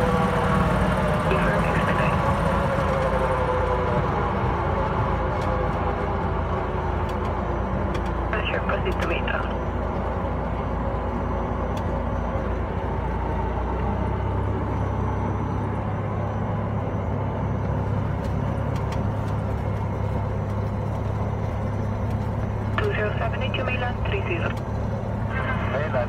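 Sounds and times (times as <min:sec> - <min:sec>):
propeller engine droning: 0:00.0 - 0:26.0.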